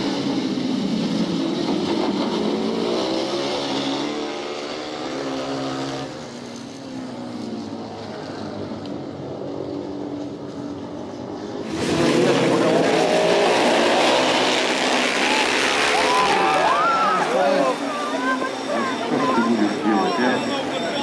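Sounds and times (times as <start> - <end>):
motorcycle engines racing: 0.0 - 21.0.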